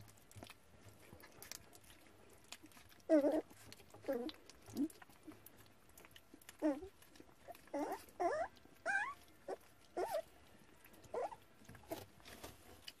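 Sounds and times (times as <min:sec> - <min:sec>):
puppies squeaking and yelping: 0:01.3 - 0:12.2.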